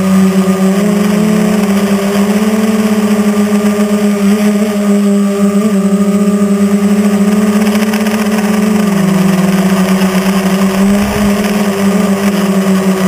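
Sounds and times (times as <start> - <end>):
quadcopter propellers buzzing: 0.0 - 13.0.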